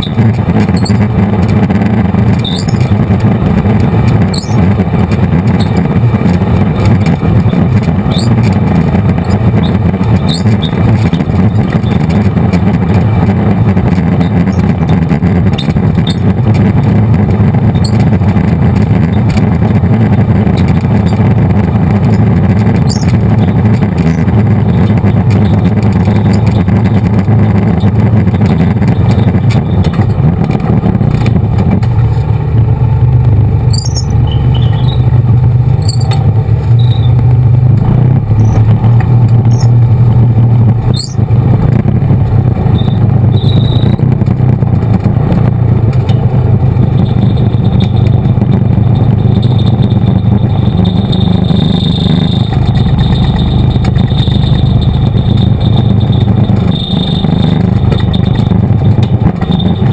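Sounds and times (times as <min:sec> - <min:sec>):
short high squeaks: 0:00.0 - 0:32.2, 0:33.6 - 0:37.3, 0:38.2 - 0:39.8, 0:40.8 - 0:41.3, 0:42.6 - 0:44.2, 0:46.0 - 0:59.9
atv engine running loud: 0:00.0 - 0:59.9.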